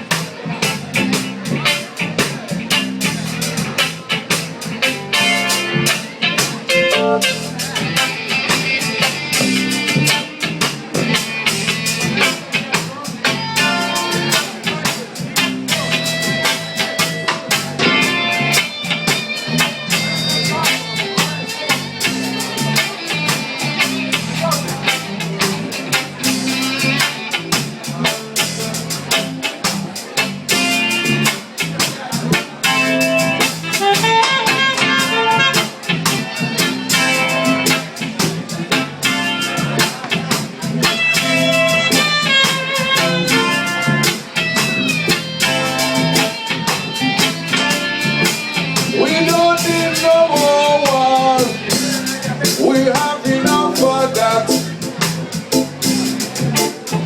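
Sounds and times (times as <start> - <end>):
electric guitar bending notes: 0.0 - 57.0
live blues band playing: 0.0 - 57.0.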